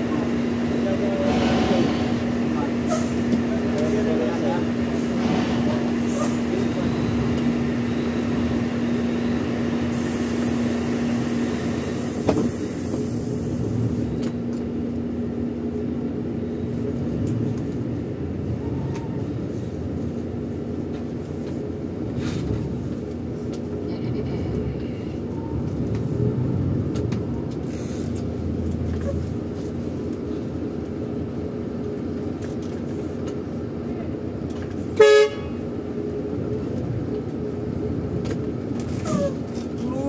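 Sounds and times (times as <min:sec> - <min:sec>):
coach engine and road noise: 0:00.0 - 0:40.0.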